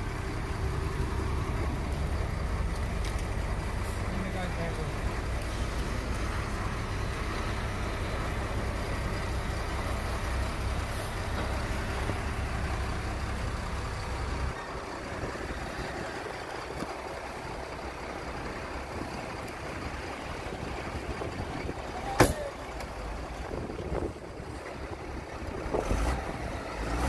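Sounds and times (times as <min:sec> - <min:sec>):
diesel engine rumbling: 0:00.0 - 0:27.0.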